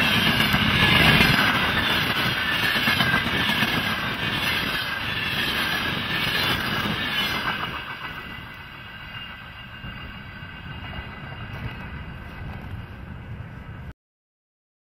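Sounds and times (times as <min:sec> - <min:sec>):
freight train wheels on rails: 0:00.0 - 0:13.9
low train rumble: 0:00.0 - 0:13.9.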